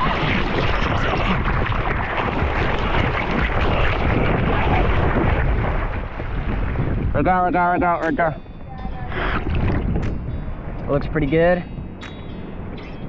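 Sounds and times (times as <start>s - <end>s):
ocean water rushing: 0.0s - 13.0s
wind buffeting microphone: 0.0s - 13.0s.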